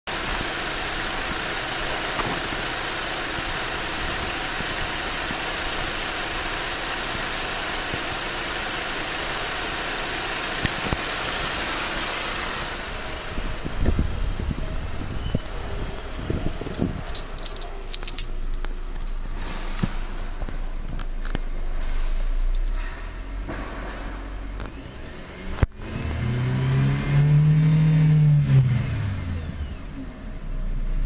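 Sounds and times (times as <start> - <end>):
car engine idling: 0.1 - 26.1, 28.0 - 31.0.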